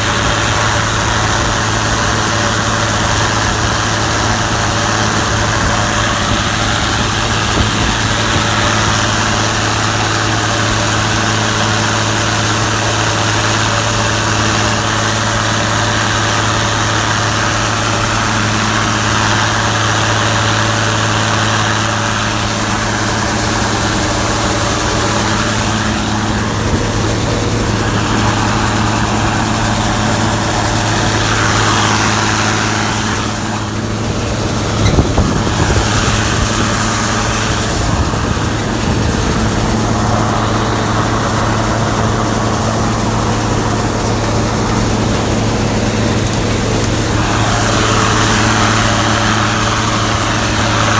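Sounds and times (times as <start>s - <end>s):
combine engine droning: 0.0s - 50.9s.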